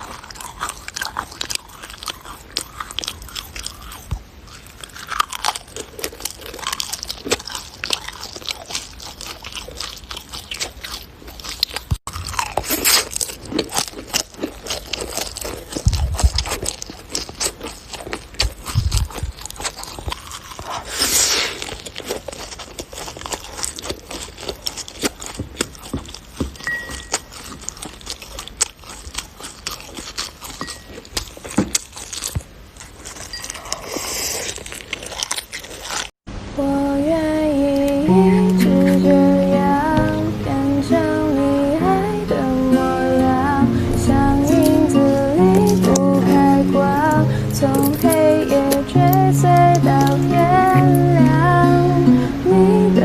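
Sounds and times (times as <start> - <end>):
slime squelching: 0.0 - 36.2, 38.1 - 51.4.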